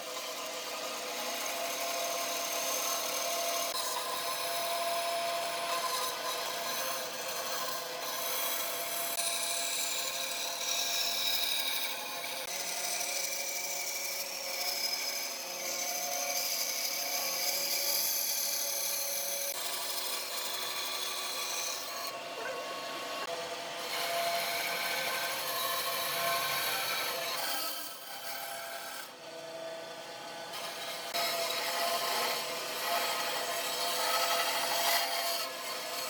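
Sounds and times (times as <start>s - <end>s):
tool scraping wood on lathe: 1.7s - 23.3s, 23.9s - 29.1s, 30.6s - 36.0s.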